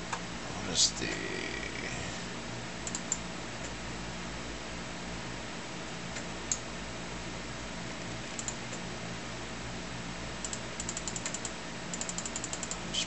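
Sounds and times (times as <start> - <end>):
computer fan hum: 0.0 - 13.0.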